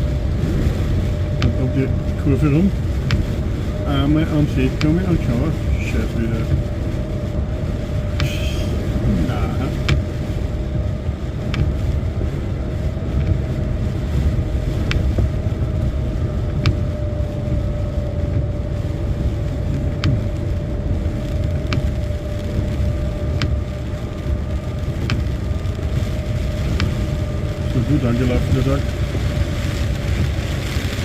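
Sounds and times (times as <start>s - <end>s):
constant hum: 0.0s - 31.0s
engine and road drone: 0.0s - 31.0s.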